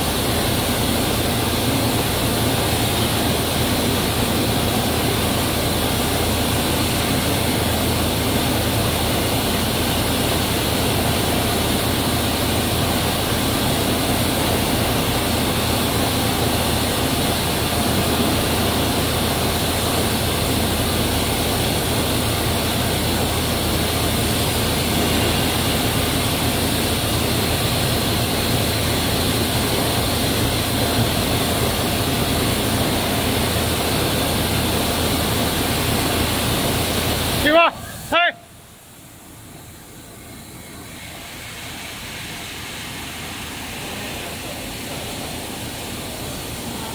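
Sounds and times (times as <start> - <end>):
machinery droning: 0.0 - 46.9.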